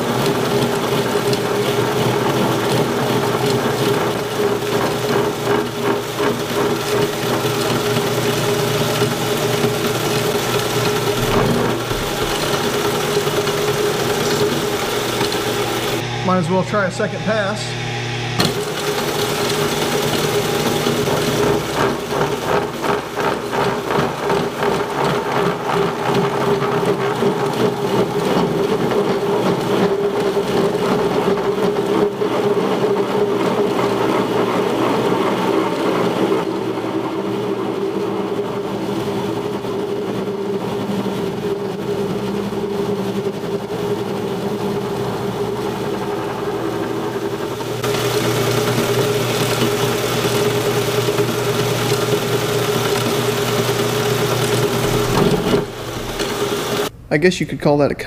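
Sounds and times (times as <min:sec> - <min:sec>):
milling machine running: 0:00.0 - 0:57.0.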